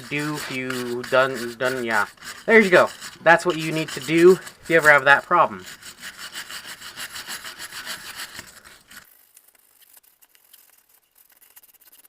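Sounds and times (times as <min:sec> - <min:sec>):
wire brush scraping metal: 0:00.0 - 0:12.0.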